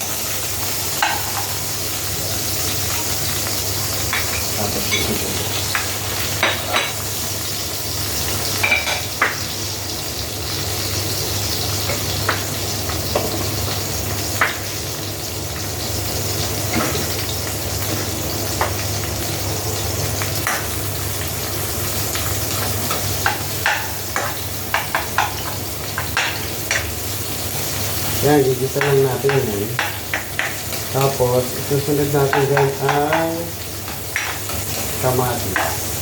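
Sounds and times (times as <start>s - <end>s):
ginger and garlic sizzling in oil: 0.0s - 36.0s.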